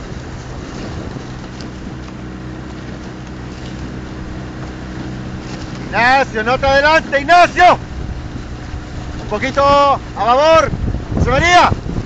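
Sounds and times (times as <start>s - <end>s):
outboard motor running: 0.0s - 12.0s
water noise: 0.0s - 12.0s
wind: 0.0s - 12.0s.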